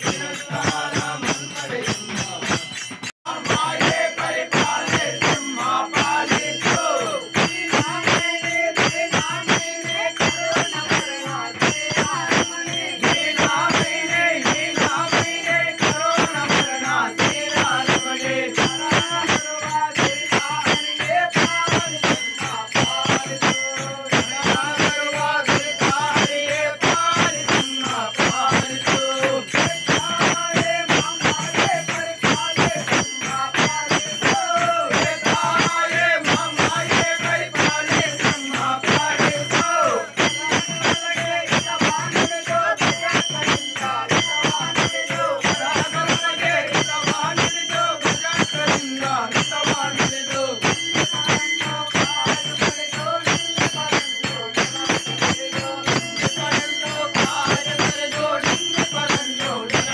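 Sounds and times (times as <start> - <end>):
metal bells ringing rapidly: 0.0 - 59.9
rhythmic hand clapping: 0.0 - 59.9
voices singing: 0.0 - 59.9.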